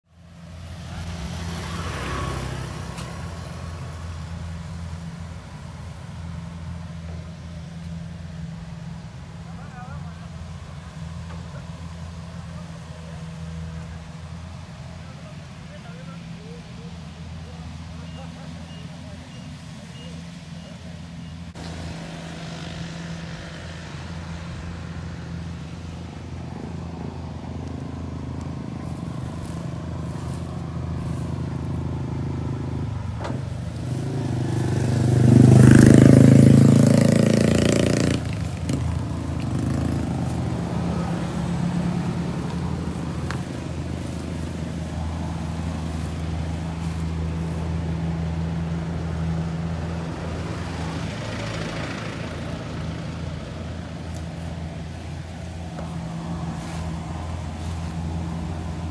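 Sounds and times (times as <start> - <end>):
combine harvester diesel engine: 0.0 - 58.9.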